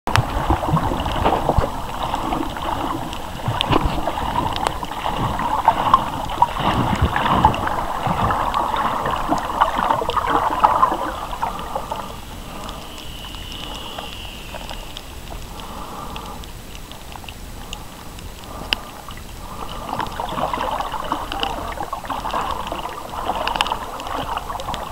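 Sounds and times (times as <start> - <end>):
small underwater clicks: 0.1 - 24.9
underwater gurgling wash: 0.1 - 24.9.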